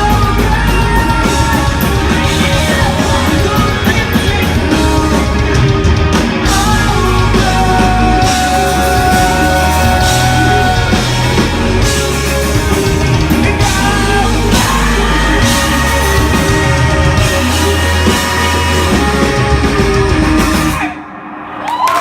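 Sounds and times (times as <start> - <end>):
person singing: 0.0 - 21.1
rock band playing live: 0.0 - 22.0.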